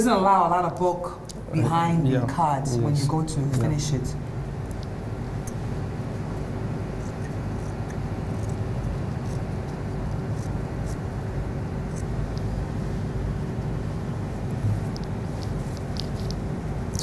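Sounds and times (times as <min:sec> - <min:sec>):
faint steady hum: 0:00.0 - 0:17.0
low background rumble: 0:00.0 - 0:17.0.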